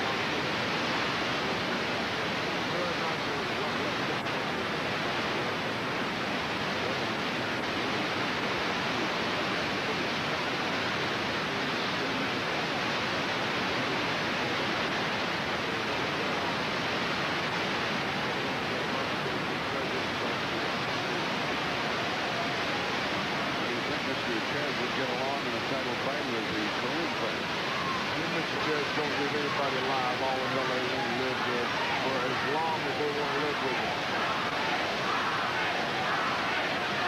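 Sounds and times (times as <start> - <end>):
static hiss: 0.0 - 37.0.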